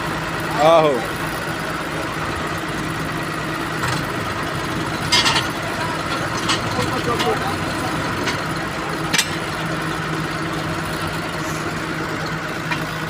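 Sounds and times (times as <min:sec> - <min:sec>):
heavy engine running: 0:00.0 - 0:13.0.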